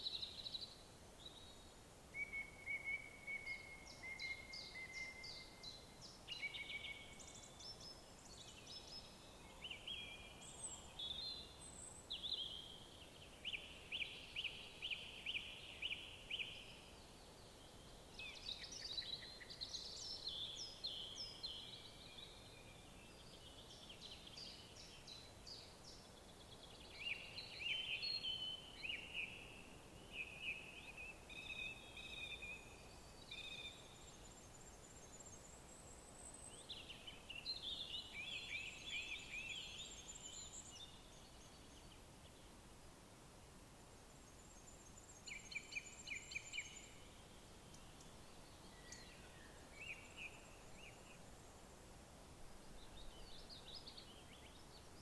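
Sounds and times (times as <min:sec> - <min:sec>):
songbirds singing: 0:00.0 - 0:42.6, 0:44.1 - 0:51.7, 0:52.6 - 0:55.0
faint steady hiss: 0:00.0 - 0:55.0.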